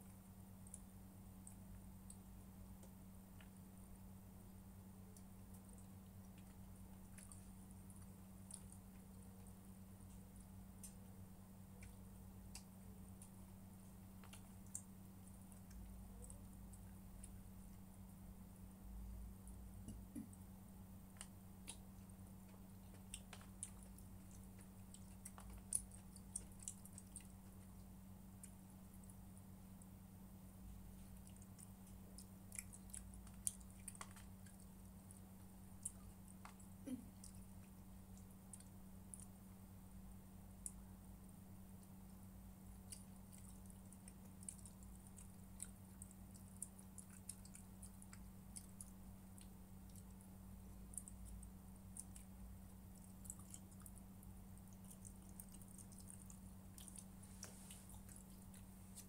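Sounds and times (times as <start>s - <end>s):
low steady hum: 0.0s - 59.0s
quiet chewing: 0.0s - 59.0s.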